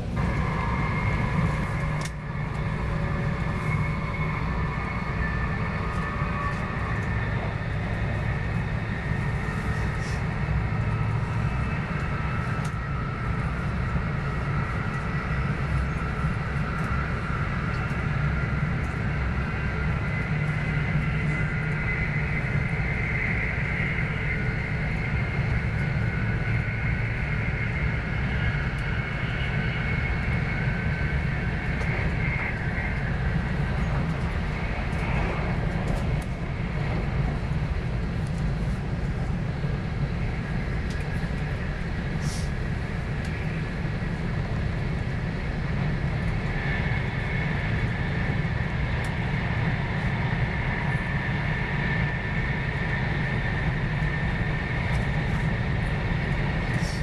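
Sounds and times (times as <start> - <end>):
faint high whine: 0.0 - 57.0
train wheels rumbling on track: 0.0 - 57.0.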